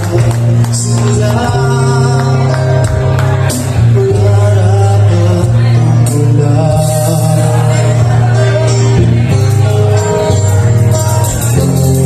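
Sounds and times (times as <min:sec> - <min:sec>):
acoustic guitar: 0:00.0 - 0:12.0
heavy steady bass line: 0:00.0 - 0:12.0
person singing: 0:00.0 - 0:12.0.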